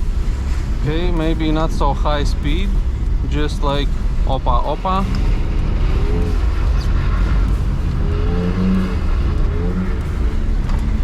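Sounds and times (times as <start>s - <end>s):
car engine revving: 0.0s - 11.0s
road and tyre noise: 0.0s - 11.0s.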